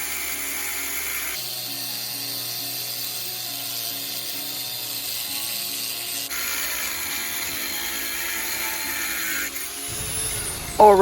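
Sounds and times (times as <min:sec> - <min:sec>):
angle grinder running: 0:00.0 - 0:11.0.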